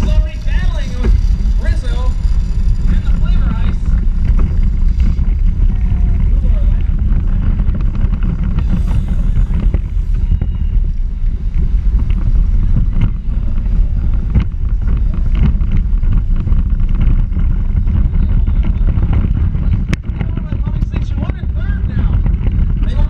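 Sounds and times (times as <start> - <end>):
wind buffeting: 0.0 - 23.0.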